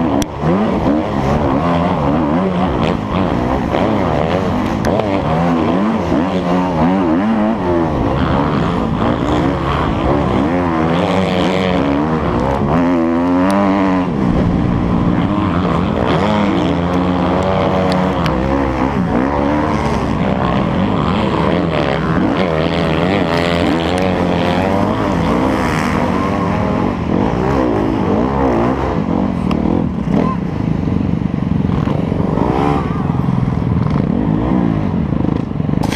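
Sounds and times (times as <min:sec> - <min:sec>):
motocross bike engine revving: 0:00.0 - 0:35.9.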